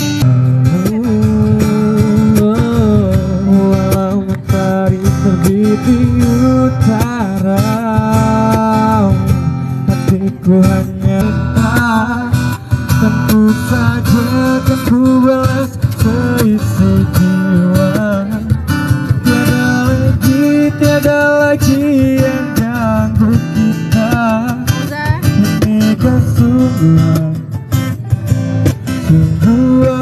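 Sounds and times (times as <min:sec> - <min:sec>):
pitch-bending guitar melody: 0:00.0 - 0:30.0
strummed acoustic guitar: 0:00.0 - 0:30.0.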